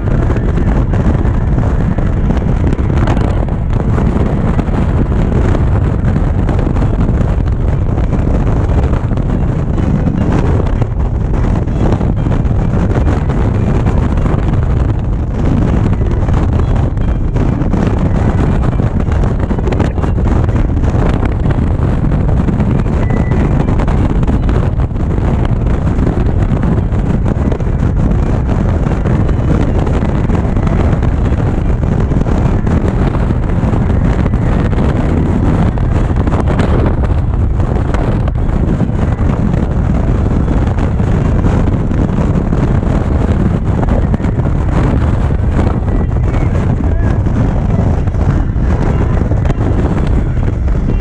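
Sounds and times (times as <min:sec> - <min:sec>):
motorcycle engine and road noise: 0:00.0 - 0:51.0
wind rushing over microphone: 0:00.0 - 0:51.0.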